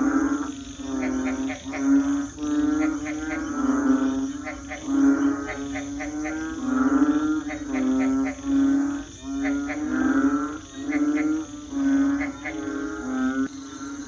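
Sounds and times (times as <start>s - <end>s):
crickets droning: 0.0s - 14.0s
frogs calling: 0.0s - 14.0s.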